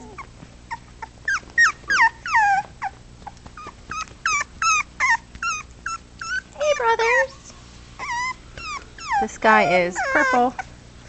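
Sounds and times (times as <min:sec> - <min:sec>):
puppies whining and yelping: 0:00.0 - 0:10.8.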